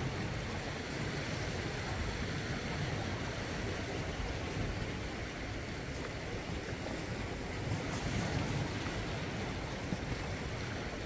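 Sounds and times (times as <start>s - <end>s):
sea waves splashing on rocks: 0.0s - 11.0s.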